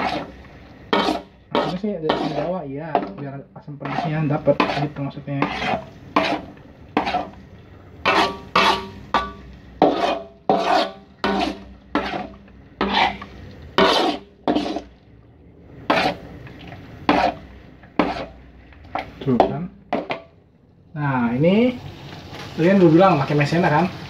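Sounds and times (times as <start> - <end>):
spatula scraping a metal wok: 0.0 - 15.0, 15.7 - 20.2.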